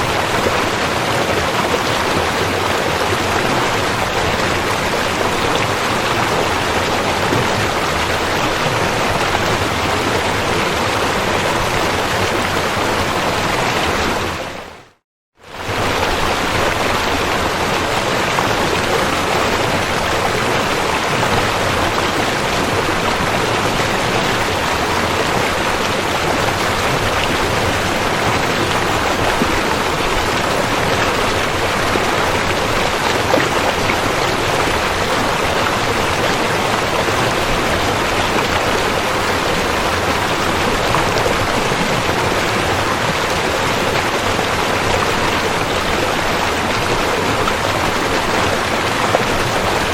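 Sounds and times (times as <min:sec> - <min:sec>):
river water flowing: 0:00.0 - 0:49.9.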